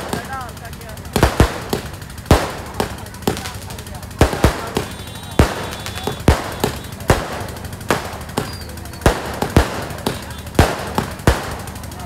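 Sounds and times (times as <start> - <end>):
fireworks banging: 0.0 - 12.0
fireworks crackling: 0.0 - 12.0.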